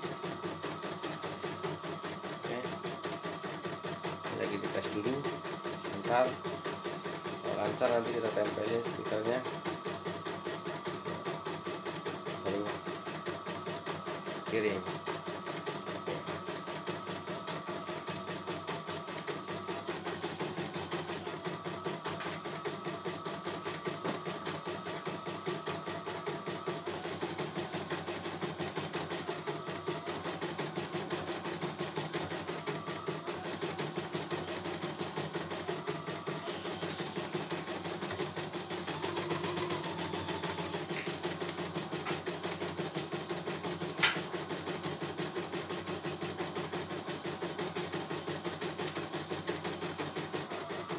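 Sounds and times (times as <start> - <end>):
embroidery machine stitching: 0.0 - 50.9.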